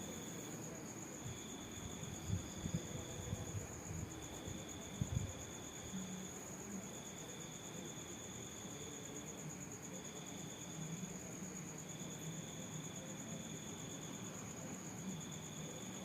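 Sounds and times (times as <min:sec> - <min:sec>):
high steady insect trill: 0:00.0 - 0:16.0.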